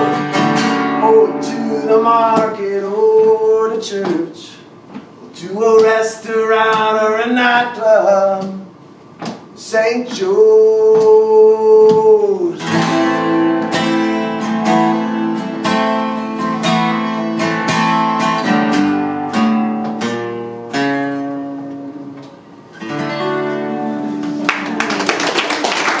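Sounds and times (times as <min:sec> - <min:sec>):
acoustic guitar strumming: 0:00.0 - 0:08.7, 0:09.7 - 0:25.0.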